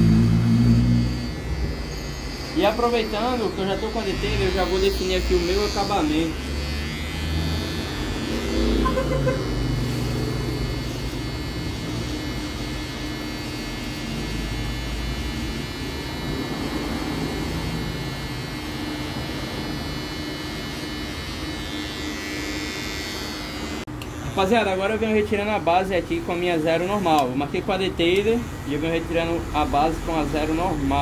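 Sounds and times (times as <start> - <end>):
hair trimmer buzzing: 0.0 - 31.0.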